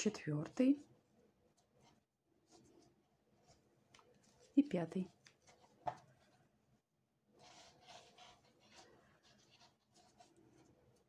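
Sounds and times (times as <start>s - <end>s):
twine rustling and scratching: 0.3s - 6.5s, 7.3s - 11.0s.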